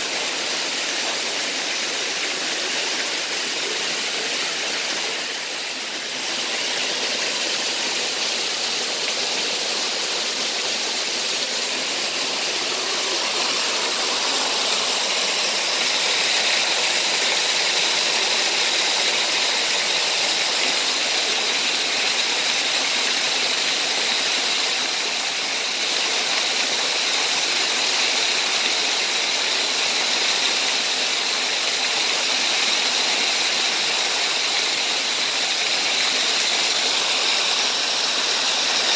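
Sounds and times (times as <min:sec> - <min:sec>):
creek and small waterfall rushing: 0:00.0 - 0:38.9.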